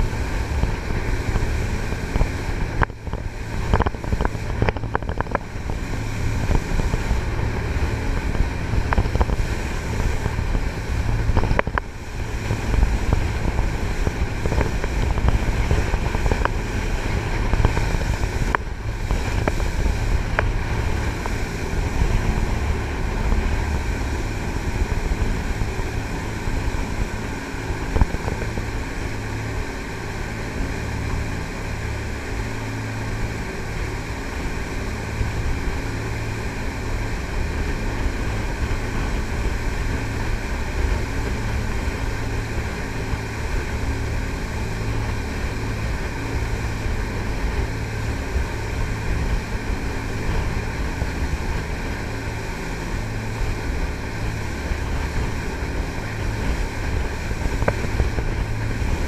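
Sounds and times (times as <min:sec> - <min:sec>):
boat engines droning: 0:00.0 - 0:59.0
rushing water and wind: 0:00.0 - 0:59.0.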